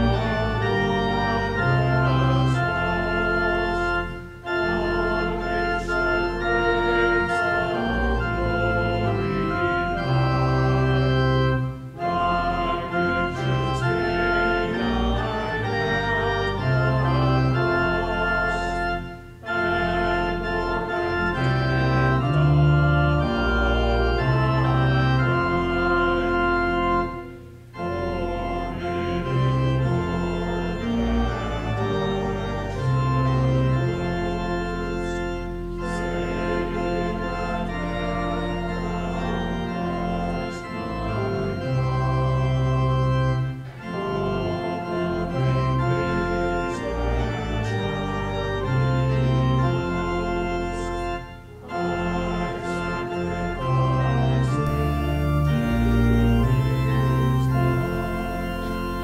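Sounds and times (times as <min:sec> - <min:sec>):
organ playing a hymn: 0:00.0 - 0:59.0.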